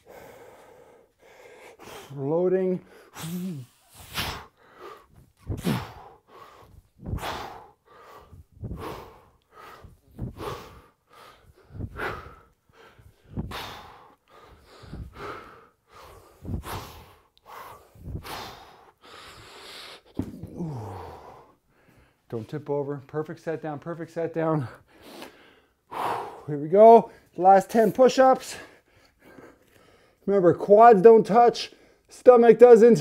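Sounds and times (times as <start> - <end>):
man's forceful breaths: 0.0 - 22.5, 24.6 - 30.2.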